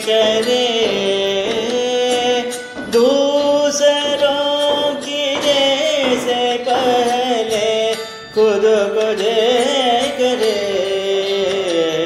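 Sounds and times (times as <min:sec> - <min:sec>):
instrumental accompaniment: 0:00.0 - 0:12.0.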